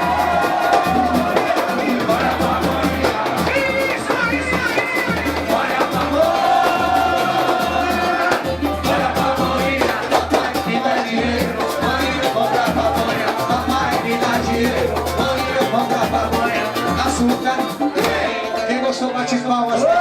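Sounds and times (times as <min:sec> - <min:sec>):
samba music with singing: 0:00.0 - 0:20.0.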